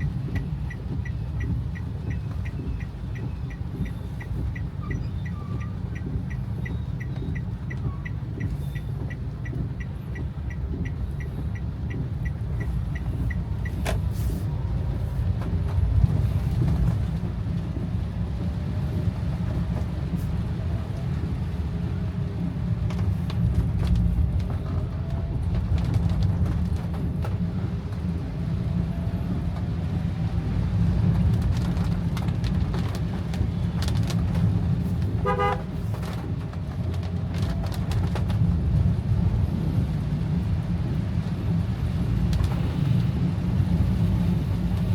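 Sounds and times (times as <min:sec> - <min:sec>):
car engine and tyres rumbling: 0:00.0 - 0:44.9
turn signal ticking: 0:00.0 - 0:44.9.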